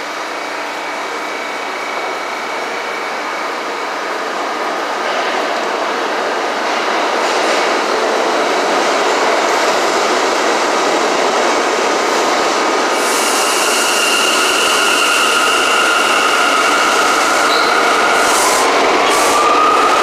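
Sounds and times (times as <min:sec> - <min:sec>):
subway train pulling out: 0:00.0 - 0:20.0.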